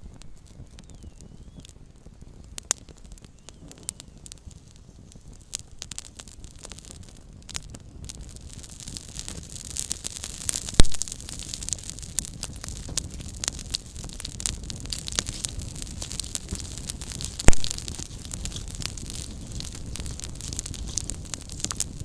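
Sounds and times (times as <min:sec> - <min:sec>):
campfire crackling: 0:00.0 - 0:22.0
fire popping: 0:00.0 - 0:22.0
soft hiss of fire: 0:00.0 - 0:22.0.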